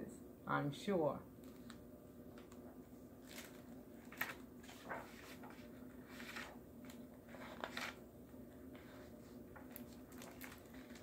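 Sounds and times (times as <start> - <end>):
book pages rustling: 1.4 - 11.0.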